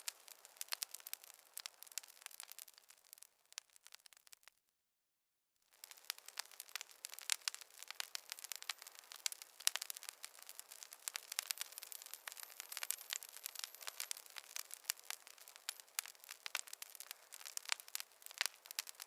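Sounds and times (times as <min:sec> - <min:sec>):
wood fire crackling: 0:00.0 - 0:04.6, 0:05.7 - 0:19.0.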